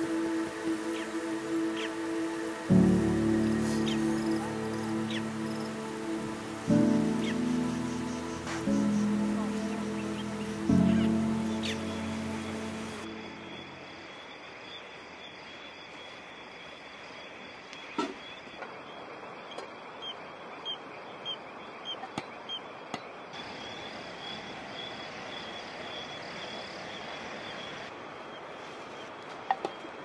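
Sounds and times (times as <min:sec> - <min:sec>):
insect trill: 0:00.0 - 0:27.9.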